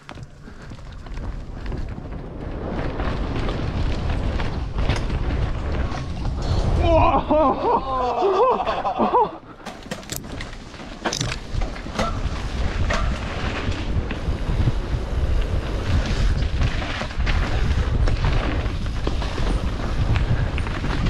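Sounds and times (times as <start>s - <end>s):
bike clattering over bumps: 0.0s - 7.4s, 9.6s - 21.0s
tyres rumbling on dirt: 0.0s - 21.0s
wind buffeting microphone: 0.0s - 21.0s.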